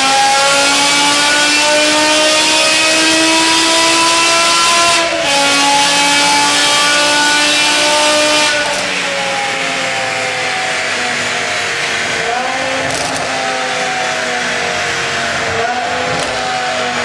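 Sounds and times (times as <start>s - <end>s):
sports car accelerating hard: 0.0s - 17.0s.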